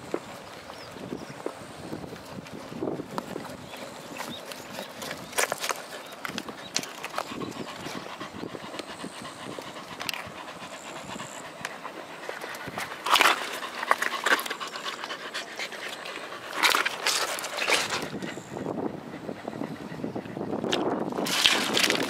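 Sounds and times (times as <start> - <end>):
dog panting: 2.2 - 20.6.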